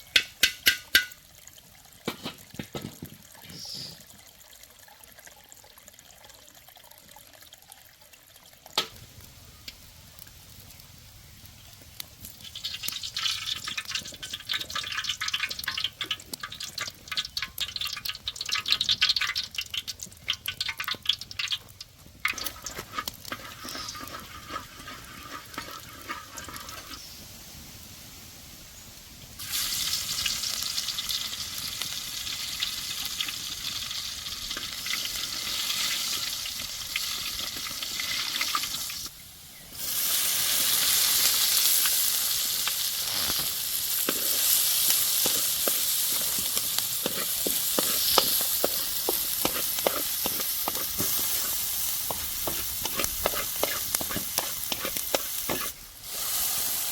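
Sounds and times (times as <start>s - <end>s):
food sizzling: 0.0s - 4.0s, 8.8s - 28.4s, 29.0s - 56.9s.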